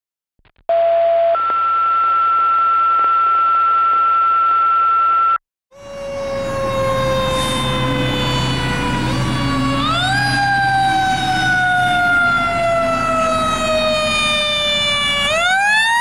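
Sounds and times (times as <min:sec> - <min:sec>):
mechanical siren winding down: 0:01.4 - 0:16.0.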